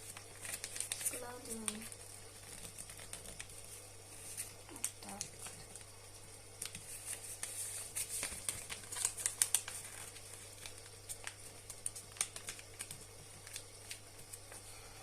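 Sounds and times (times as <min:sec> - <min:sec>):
paper being folded and creased: 0:00.0 - 0:05.9, 0:06.6 - 0:14.5.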